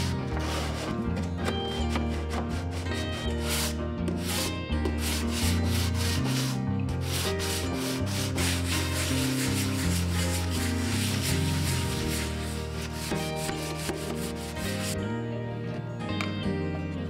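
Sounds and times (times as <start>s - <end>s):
sandpaper rubbing on wood: 0.0s - 0.9s, 2.1s - 15.0s.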